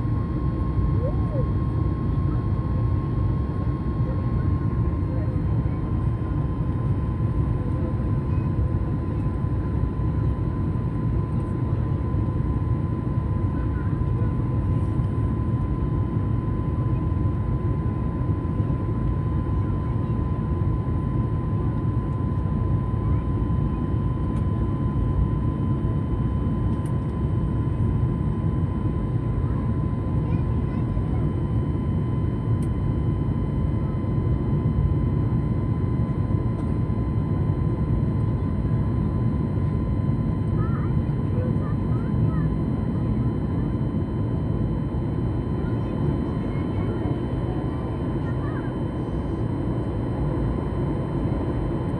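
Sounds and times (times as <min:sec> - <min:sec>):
faint steady whine: 0:00.0 - 0:51.9
jet engines roaring in flight: 0:00.0 - 0:51.9.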